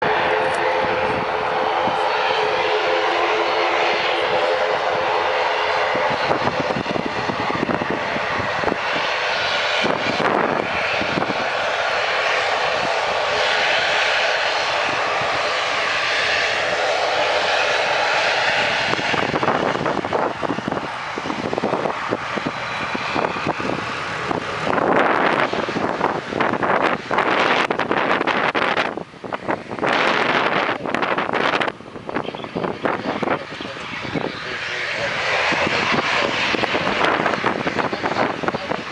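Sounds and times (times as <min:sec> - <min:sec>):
turboprop engines droning: 0:00.0 - 0:38.9
wind buffeting microphone: 0:00.0 - 0:38.9.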